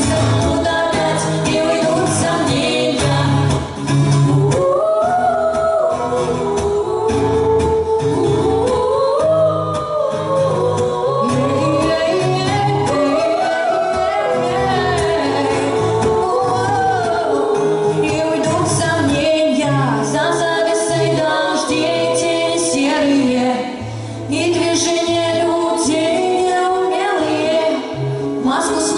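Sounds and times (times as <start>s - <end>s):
instrumental accompaniment: 0.0s - 28.9s
women singing: 0.0s - 28.9s.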